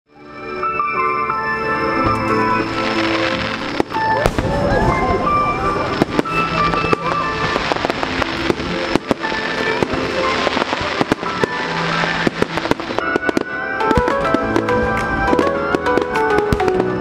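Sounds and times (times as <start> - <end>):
music playing: 0.1 - 17.0
fireworks bursting: 0.8 - 17.0.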